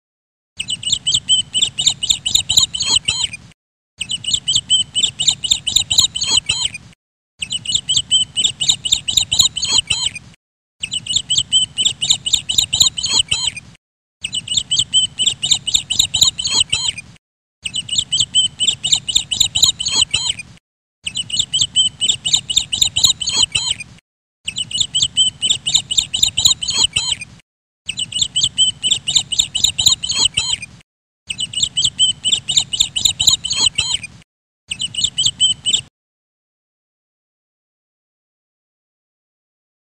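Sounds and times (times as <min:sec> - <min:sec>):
rapid high-pitched bird chirping: 0:00.6 - 0:35.9.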